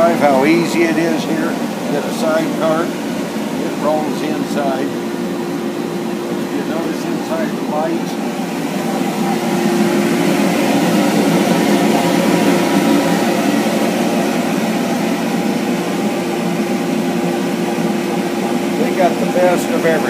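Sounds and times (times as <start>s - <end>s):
fan motor whirring hum: 0.0s - 20.0s.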